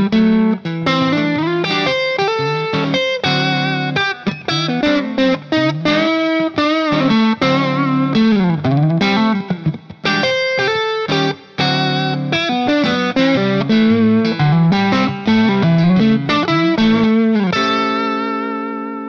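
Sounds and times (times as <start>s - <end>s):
guitar instrumental music: 0.0s - 19.0s.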